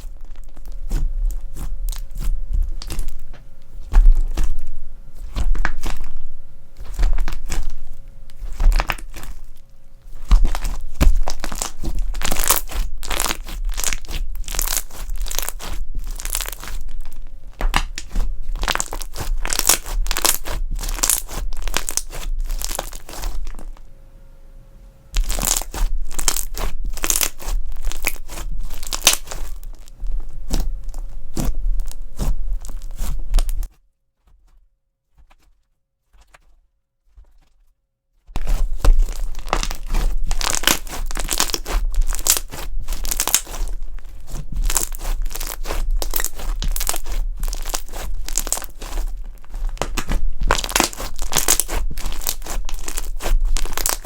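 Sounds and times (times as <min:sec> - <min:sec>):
crunchy slime crackling: 0:00.0 - 0:23.9, 0:25.1 - 0:54.0.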